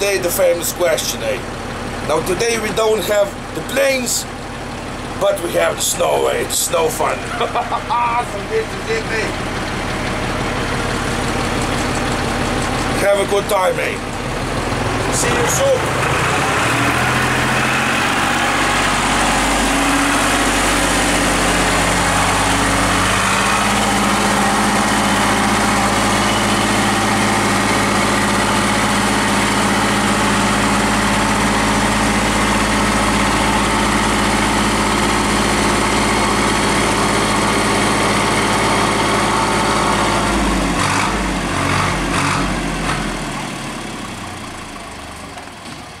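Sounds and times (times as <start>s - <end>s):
small tractor engine running: 0.0s - 46.0s.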